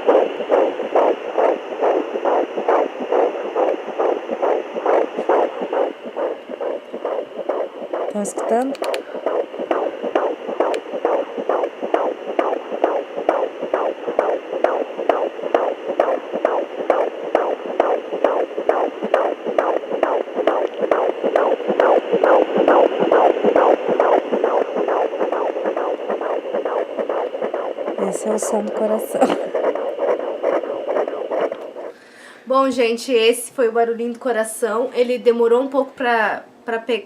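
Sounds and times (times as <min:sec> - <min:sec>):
steady electronic hiss: 0:00.0 - 0:32.5
fetal heartbeat whooshing pulses: 0:00.0 - 0:35.7.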